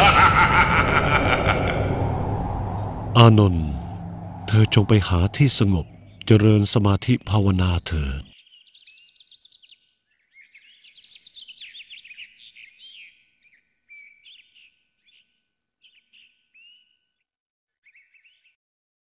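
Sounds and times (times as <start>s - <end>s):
songbirds chirping and trilling: 0.4s - 17.0s, 17.8s - 18.5s.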